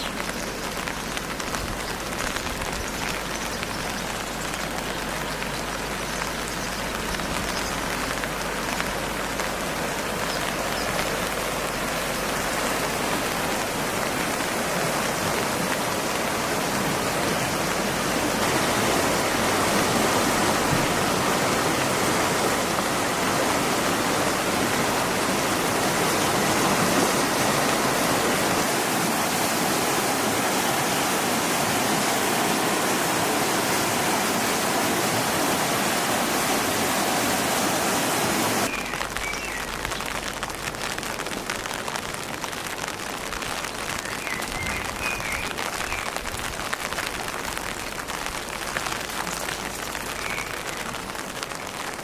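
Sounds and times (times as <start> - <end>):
heavy rain hissing: 0.0 - 52.0
raindrops pattering on a surface: 0.0 - 52.0.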